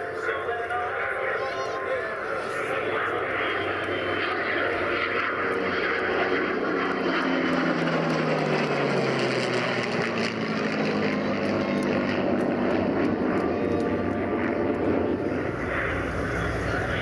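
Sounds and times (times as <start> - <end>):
jet and piston engines flying past: 0.0 - 17.0.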